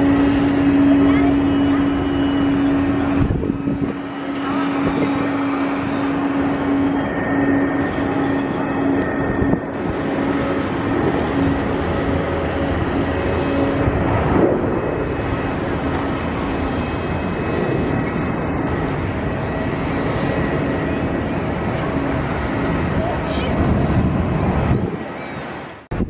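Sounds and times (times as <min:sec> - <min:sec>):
jet engines at taxi power: 0:00.0 - 0:26.0.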